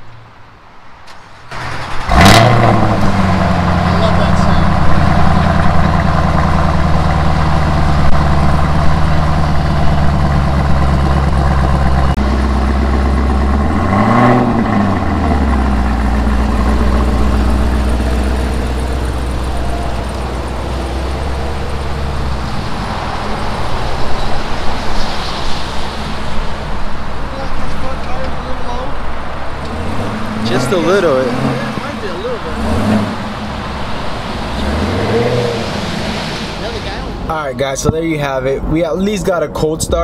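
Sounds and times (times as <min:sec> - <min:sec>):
car pulling away: 0:01.0 - 0:40.0
car engine idling: 0:01.2 - 0:40.0.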